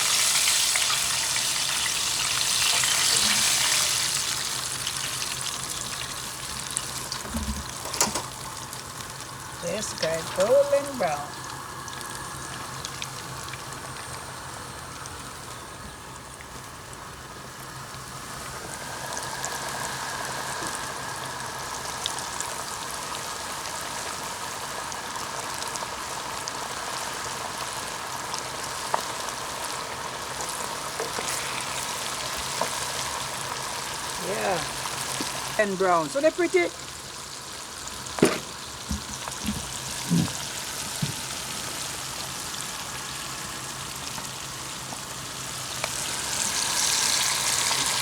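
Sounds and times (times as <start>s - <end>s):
chicken sizzling in hot oil: 0.0s - 48.0s.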